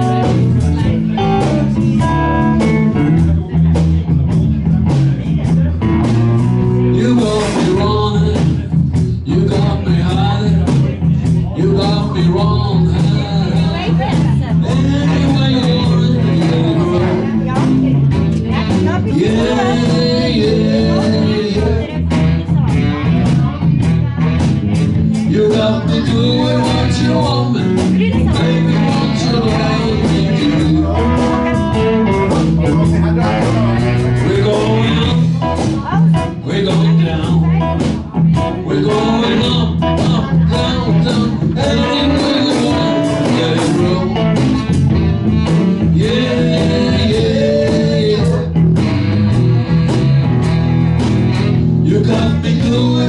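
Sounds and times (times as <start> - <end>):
live blues band: 0.0 - 53.0
person singing: 6.8 - 48.9, 51.8 - 53.0.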